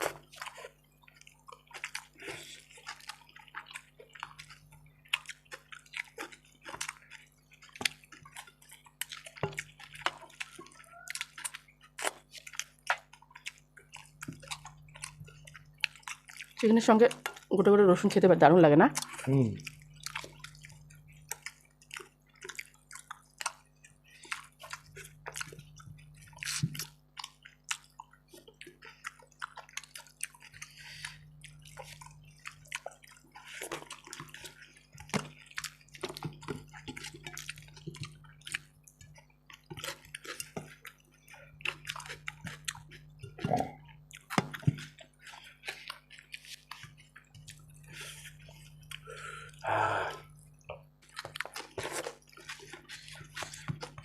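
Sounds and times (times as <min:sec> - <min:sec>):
wet chewing and mouth smacking: 0:00.0 - 0:54.0.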